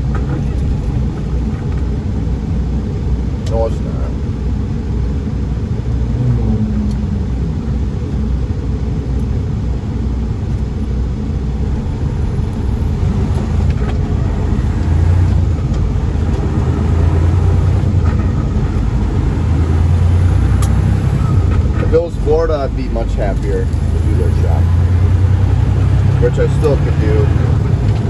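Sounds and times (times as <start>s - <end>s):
road noise inside cab: 0.0s - 28.0s
truck engine rumble: 0.0s - 28.0s.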